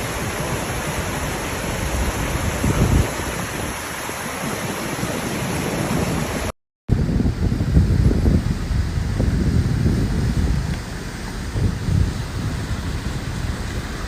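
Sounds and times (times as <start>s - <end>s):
water rushing: 0.0s - 14.0s
wind on microphone: 0.0s - 14.0s.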